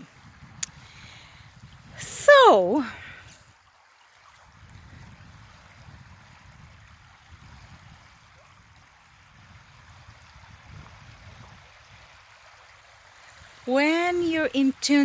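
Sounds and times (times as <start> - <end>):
water washing along a shoreline: 0.0 - 15.0.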